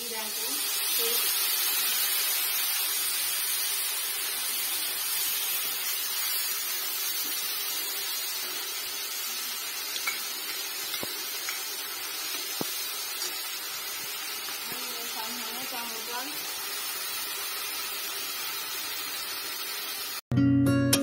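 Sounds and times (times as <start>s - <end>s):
paste sizzling in hot oil: 0.0s - 20.2s.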